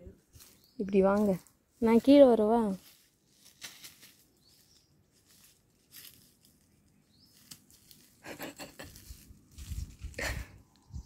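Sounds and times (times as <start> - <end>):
leaves and brush rustling: 0.0 - 11.0.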